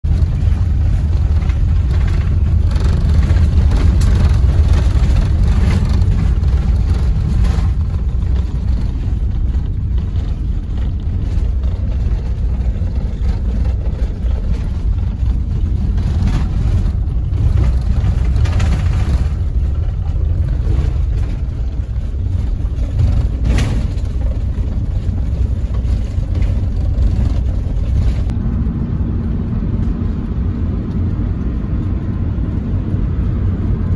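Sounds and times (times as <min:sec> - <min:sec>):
vehicle cabin rumble: 0:00.0 - 0:33.9.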